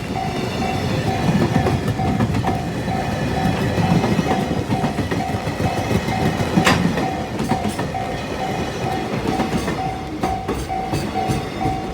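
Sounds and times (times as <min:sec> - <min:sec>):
freight train rumbling past: 0:00.0 - 0:11.9
level crossing warning bell: 0:00.0 - 0:11.9
wheels clacking over rail joints: 0:00.0 - 0:11.9.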